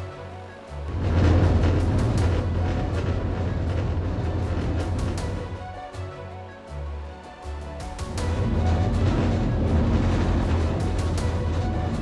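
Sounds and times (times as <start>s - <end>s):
loud music with low rumble: 0.0s - 12.0s.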